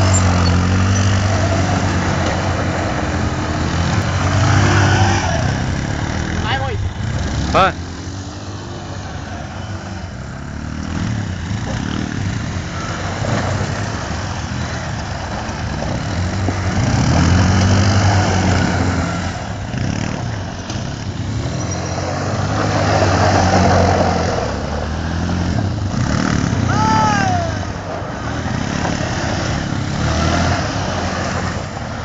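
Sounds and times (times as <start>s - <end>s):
quad bike engines revving: 0.0s - 32.0s.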